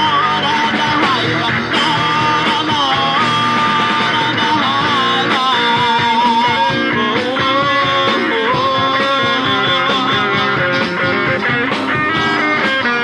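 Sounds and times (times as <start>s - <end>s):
guitar: 0.0s - 13.0s
live band playing: 0.0s - 13.0s.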